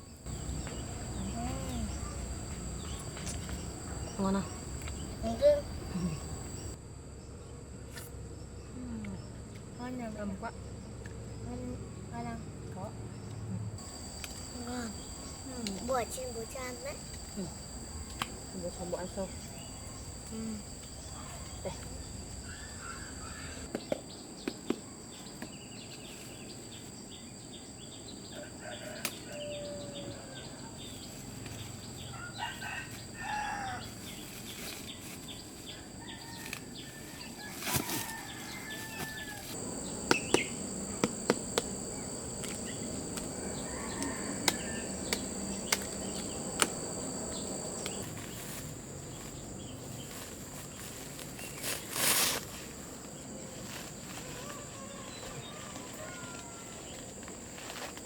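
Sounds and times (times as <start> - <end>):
insects shrilling: 0.1 - 6.8, 13.8 - 23.8, 25.1 - 58.0.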